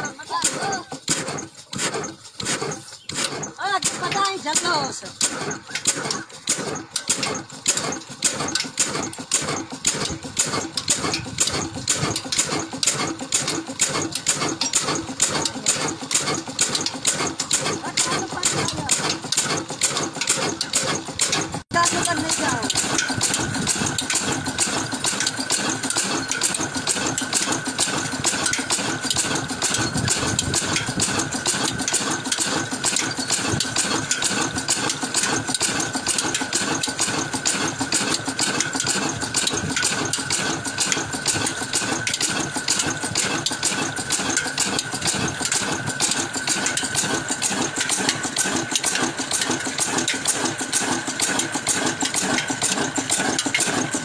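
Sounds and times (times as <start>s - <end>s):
old diesel engine idling: 0.0s - 54.0s.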